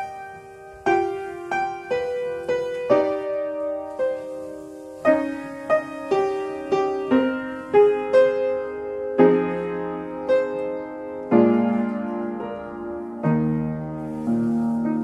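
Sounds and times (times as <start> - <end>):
piano melody over chords: 0.0 - 15.0.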